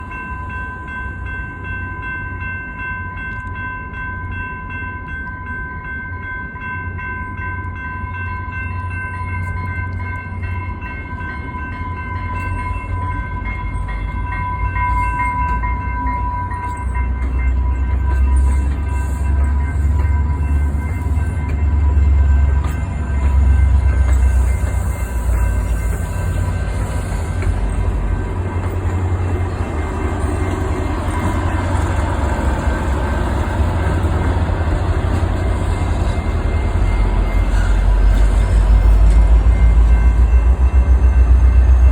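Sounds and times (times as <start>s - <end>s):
train rumble: 0.0s - 41.9s.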